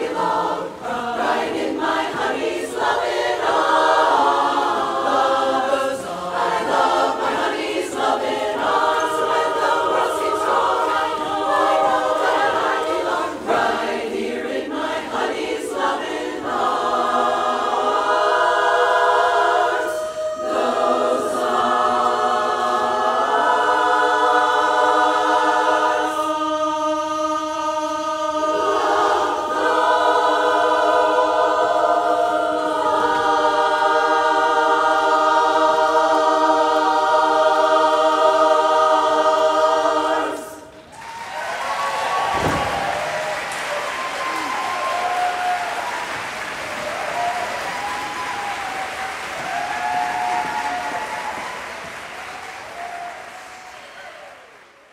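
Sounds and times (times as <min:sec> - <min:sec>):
women's chorus singing a cappella: 0:00.0 - 0:53.2.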